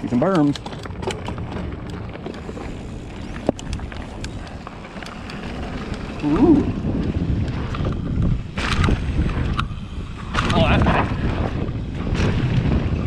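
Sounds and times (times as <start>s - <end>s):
tyres on dirt: 0.0s - 12.8s
bike ticks and rattles: 0.0s - 13.0s
wind rushing over microphone: 0.0s - 13.0s.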